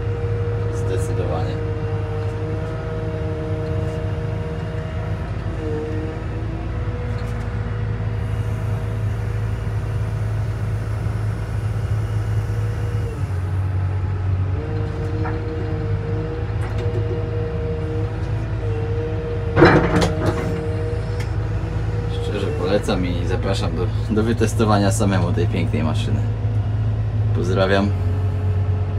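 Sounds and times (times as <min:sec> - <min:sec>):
diesel engine running: 0:00.0 - 0:28.9
hydraulic whine: 0:00.0 - 0:28.9.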